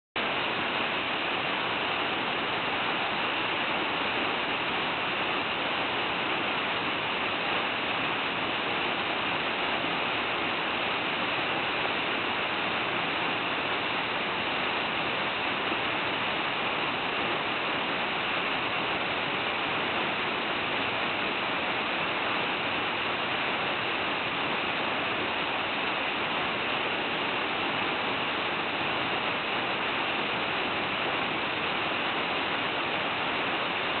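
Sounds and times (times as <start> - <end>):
waterfall roaring: 0.2 - 34.0.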